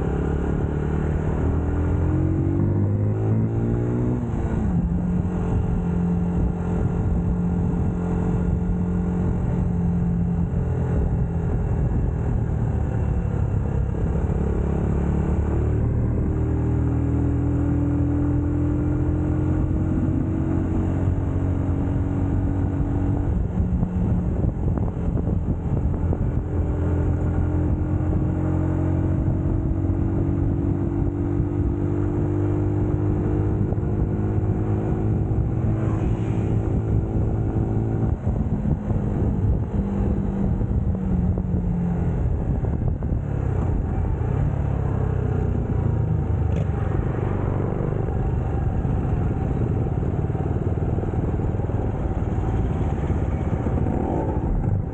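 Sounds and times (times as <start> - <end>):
motorcycle engine running: 4.2 - 54.9.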